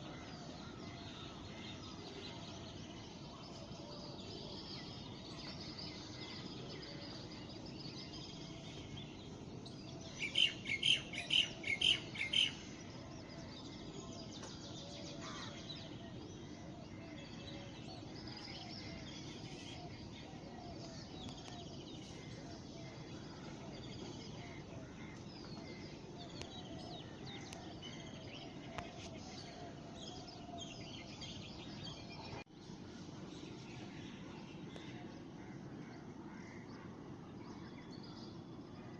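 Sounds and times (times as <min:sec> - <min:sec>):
low background hum: 0:00.0 - 0:38.9.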